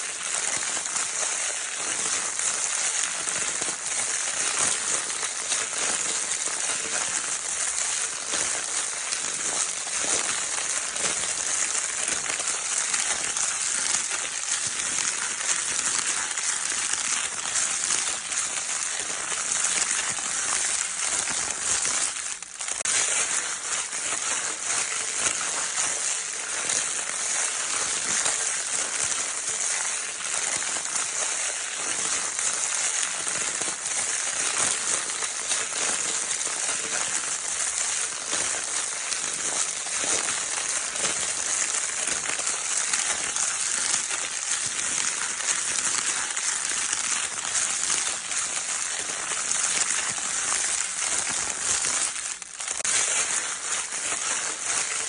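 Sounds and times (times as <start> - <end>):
crinkle paper rustling: 0.0 - 55.0.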